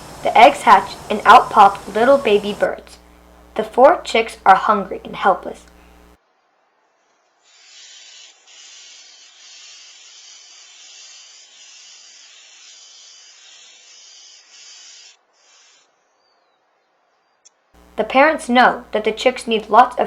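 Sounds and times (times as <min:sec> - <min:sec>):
steady high hiss: 0:00.0 - 0:06.2, 0:07.5 - 0:15.8, 0:17.8 - 0:20.0.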